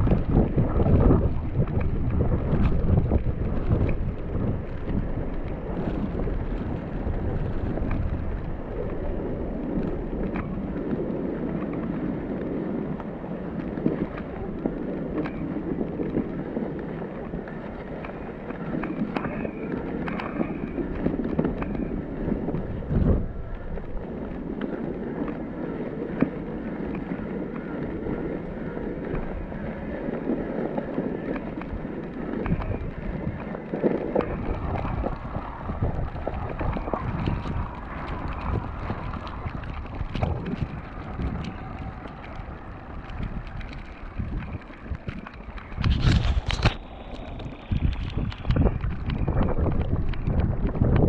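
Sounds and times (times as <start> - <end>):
tyre and wind noise: 0.0 - 51.0.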